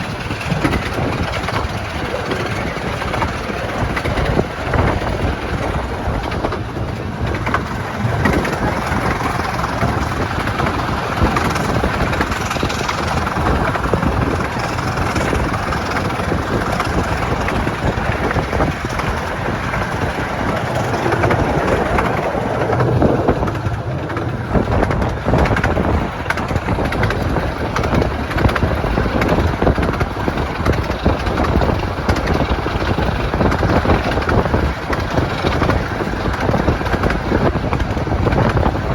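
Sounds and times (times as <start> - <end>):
wheels rumbling and rattling on rail: 0.0 - 38.9.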